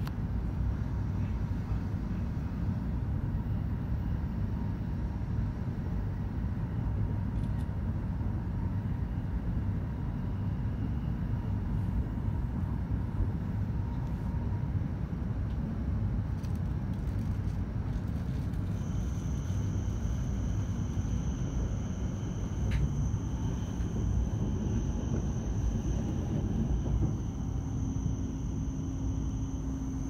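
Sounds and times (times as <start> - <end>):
faint steady whine: 0.0 - 30.0
train running low rumble: 0.0 - 30.0.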